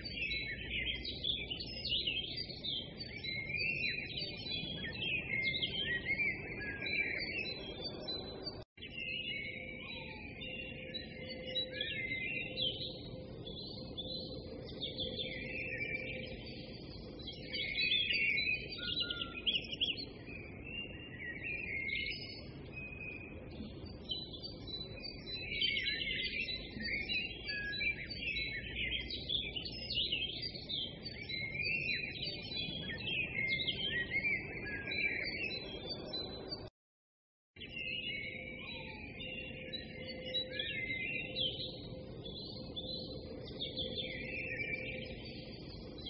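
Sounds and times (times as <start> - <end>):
small birds chirping: 0.0 - 36.7, 37.6 - 46.0.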